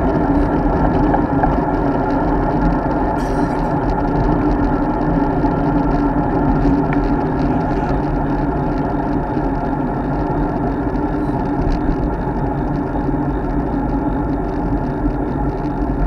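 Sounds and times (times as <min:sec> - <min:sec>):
road noise from bike: 0:00.0 - 0:16.0
rushing wind: 0:00.0 - 0:16.0.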